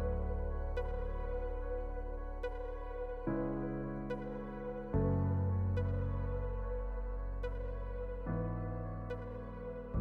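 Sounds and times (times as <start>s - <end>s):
ambient music with sustained chords: 0.0s - 10.0s.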